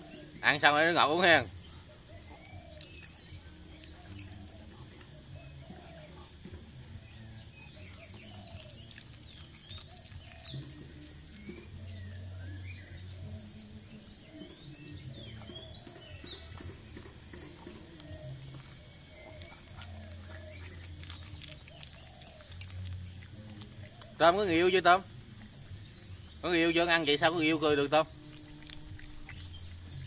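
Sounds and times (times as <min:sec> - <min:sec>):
bird chirps: 0:00.0 - 0:30.0
high-pitched insect trill: 0:00.0 - 0:30.0.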